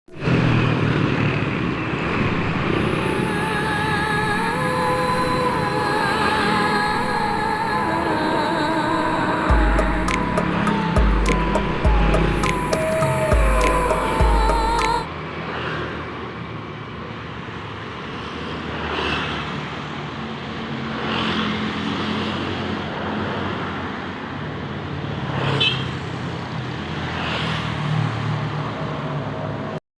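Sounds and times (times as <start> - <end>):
vehicles passing: 0.1 - 29.8.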